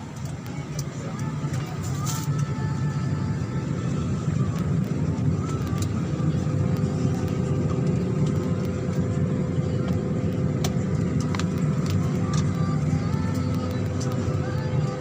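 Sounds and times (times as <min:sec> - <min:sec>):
cabin air supply rumble: 0:00.0 - 0:15.0
steady whine: 0:00.0 - 0:15.0.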